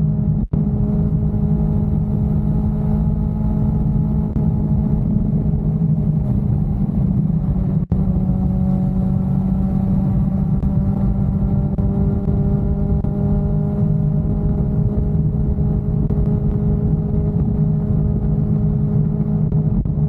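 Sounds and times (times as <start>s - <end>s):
motorcycle engine cruising: 0.0s - 20.0s
road and wind rumble: 0.0s - 20.0s.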